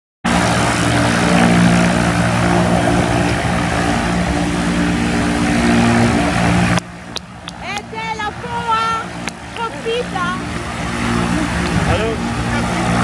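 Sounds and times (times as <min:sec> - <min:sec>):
turboprop engine and propeller drone: 0:00.2 - 0:13.0.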